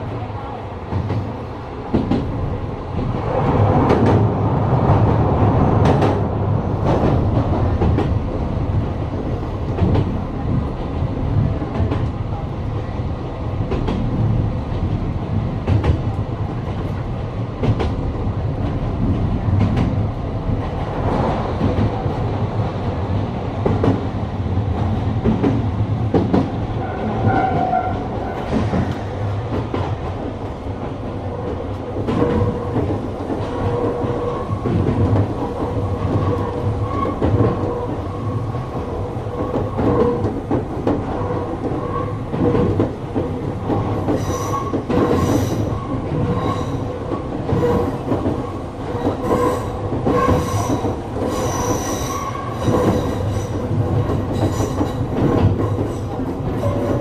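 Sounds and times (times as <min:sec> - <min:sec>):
wheels rumbling on rail: 0:00.0 - 0:57.0.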